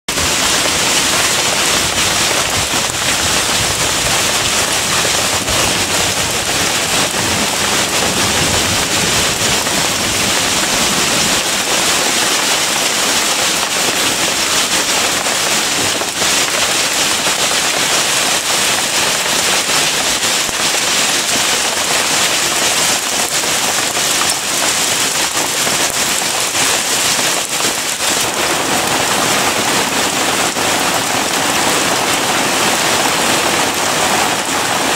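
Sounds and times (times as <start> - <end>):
hail and rain on leaves: 0.1 - 34.9.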